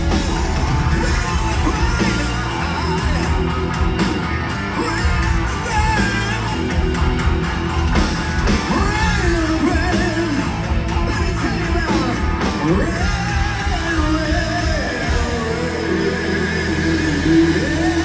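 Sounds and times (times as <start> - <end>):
distorted guitars: 0.0 - 18.0
drums: 0.0 - 18.0
wailing melodic guitar lines: 0.0 - 18.0.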